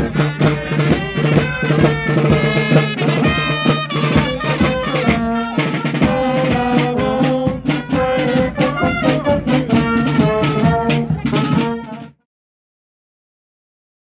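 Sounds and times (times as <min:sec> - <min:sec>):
brass band with drums: 0:00.0 - 0:12.2.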